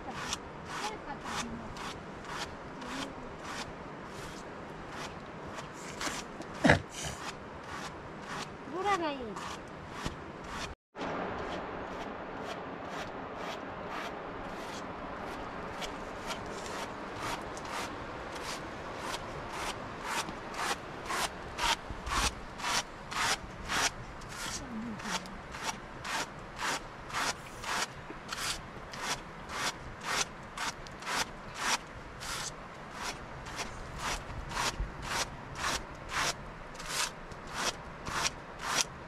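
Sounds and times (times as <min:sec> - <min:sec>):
hand carders rasping wool: 0:00.0 - 0:10.8, 0:12.0 - 0:38.9.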